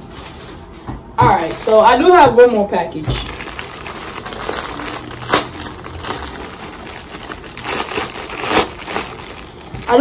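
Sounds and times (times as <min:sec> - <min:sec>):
sharp plastic crackle: 0:01.3 - 0:10.0
plastic bag crinkling: 0:01.4 - 0:10.0.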